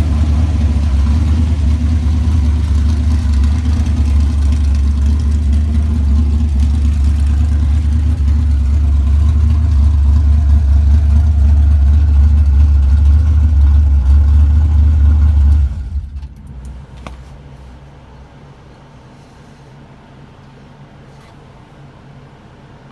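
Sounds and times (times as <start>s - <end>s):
engine deep rumble: 0.0s - 22.9s.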